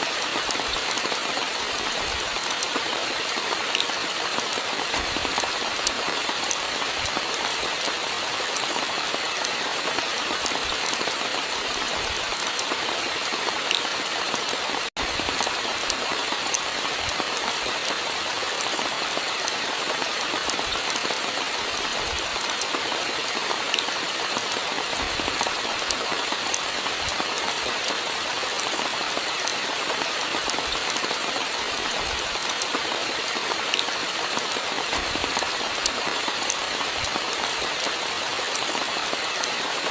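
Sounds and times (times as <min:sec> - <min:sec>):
rain drops ticking on surface: 0:00.0 - 0:39.9.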